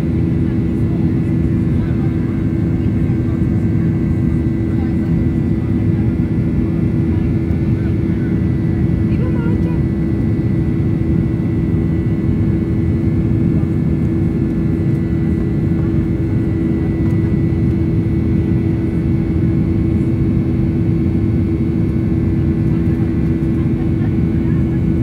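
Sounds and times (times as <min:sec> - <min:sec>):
airliner cabin drone: 0:00.0 - 0:25.0.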